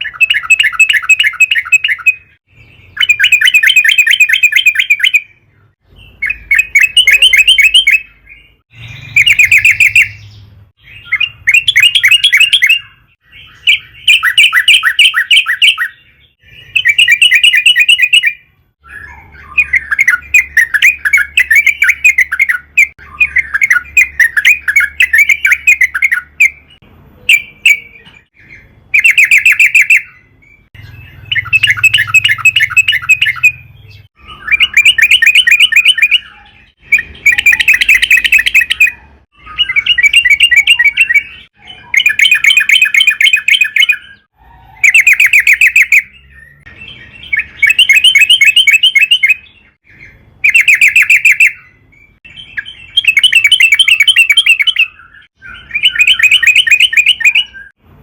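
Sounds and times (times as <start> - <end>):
bulbul singing: 0.0 - 57.8.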